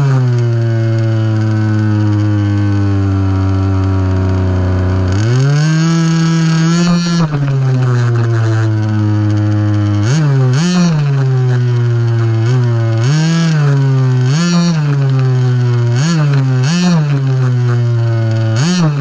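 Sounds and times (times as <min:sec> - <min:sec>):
rc buggy motor revving: 0:00.0 - 0:19.0.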